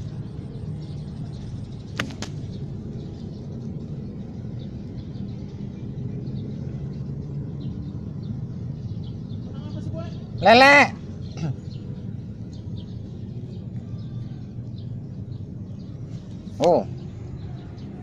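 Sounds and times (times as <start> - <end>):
engine rumbling: 0.0 - 18.0.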